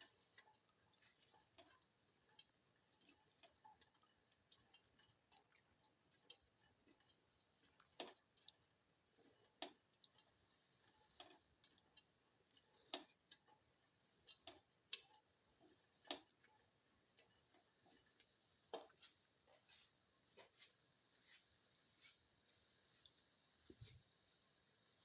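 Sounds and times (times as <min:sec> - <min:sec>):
shallots sauteing in a pan: 0:00.0 - 0:25.0.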